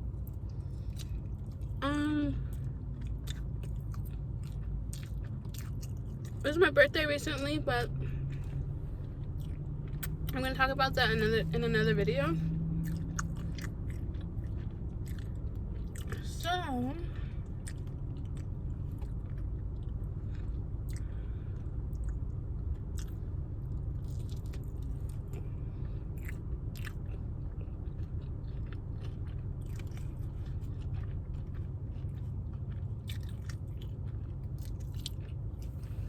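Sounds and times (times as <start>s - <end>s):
person chewing food: 0.0s - 1.8s, 2.4s - 6.4s, 8.0s - 10.4s, 12.5s - 36.0s
steady low hum: 0.0s - 36.0s.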